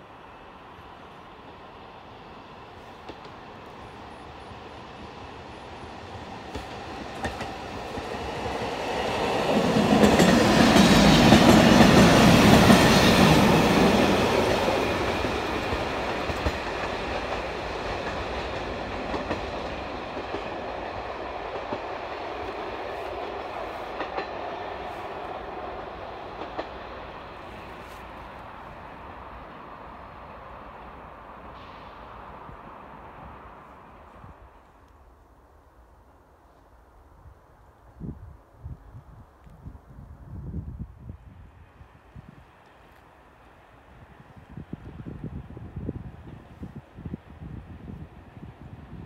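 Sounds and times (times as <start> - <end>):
railcar passing by: 0.0 - 49.0.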